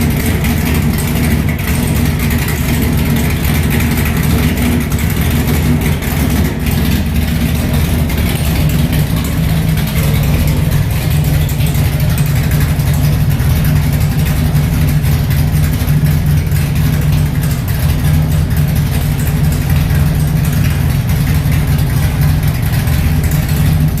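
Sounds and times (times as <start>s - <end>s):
pickup truck engine idling: 0.0s - 24.0s.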